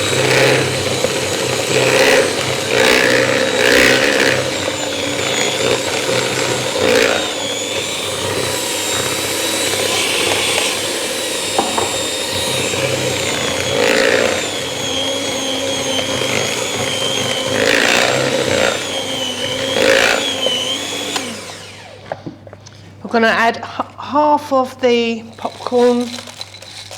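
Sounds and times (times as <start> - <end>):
electric mixer motor whine: 0.0 - 22.4.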